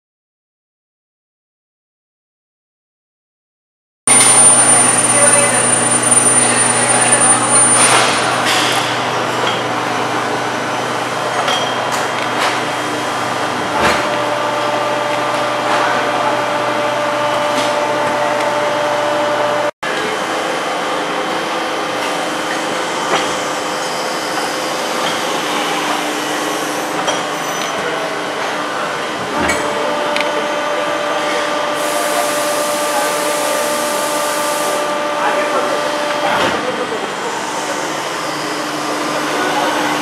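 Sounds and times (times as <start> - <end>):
injection moulding machine hum: 4.1 - 40.0.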